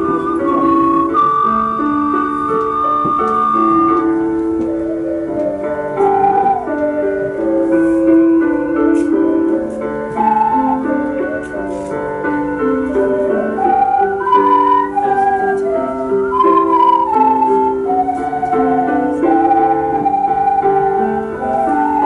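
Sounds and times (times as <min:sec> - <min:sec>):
ocarina ensemble playing: 0:00.0 - 0:22.0.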